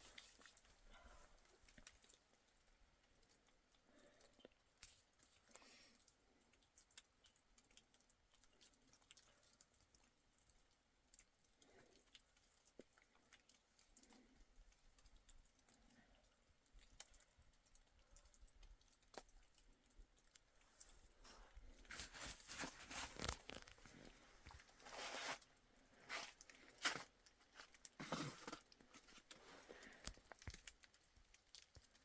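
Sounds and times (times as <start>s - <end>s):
faint small clicks and crackles: 0.0s - 32.0s.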